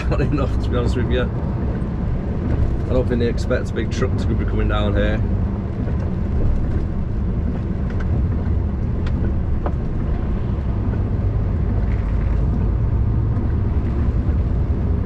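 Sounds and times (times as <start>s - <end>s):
lorry diesel engine rumble: 0.0s - 15.0s
road noise from inside cab: 0.0s - 15.0s.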